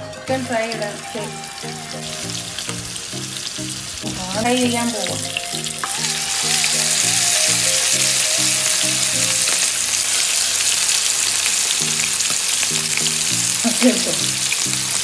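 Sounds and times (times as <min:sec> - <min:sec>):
background music: 0:00.0 - 0:15.0
chicken sizzling in hot oil: 0:00.0 - 0:15.0.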